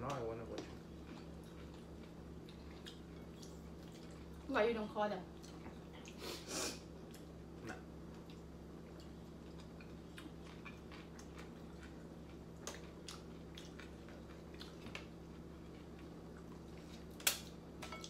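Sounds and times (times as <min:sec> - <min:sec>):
quiet chewing: 0:00.0 - 0:04.5, 0:05.3 - 0:06.3, 0:07.0 - 0:17.3.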